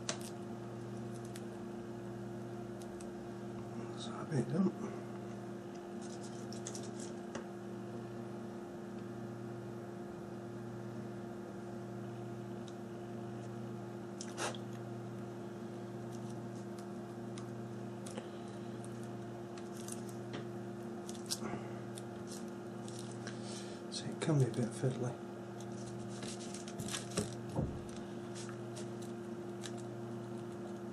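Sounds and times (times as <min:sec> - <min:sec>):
electrical hum: 0:00.0 - 0:30.9.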